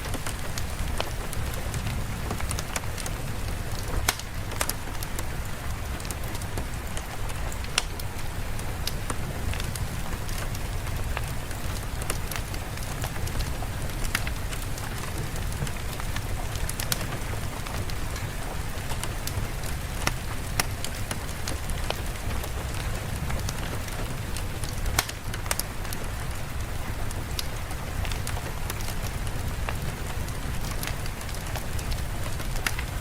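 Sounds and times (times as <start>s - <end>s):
rain hiss: 0.0s - 33.0s
raindrop ticks: 0.0s - 33.0s.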